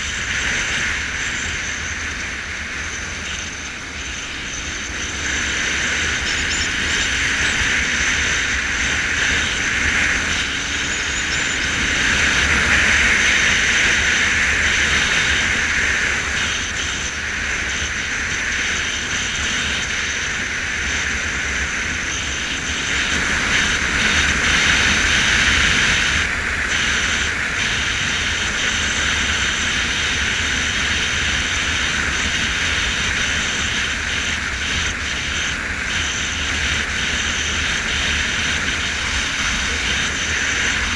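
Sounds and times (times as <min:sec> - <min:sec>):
motorcycle engine running: 0:00.0 - 0:40.9
wind and road noise rushing: 0:00.0 - 0:40.9.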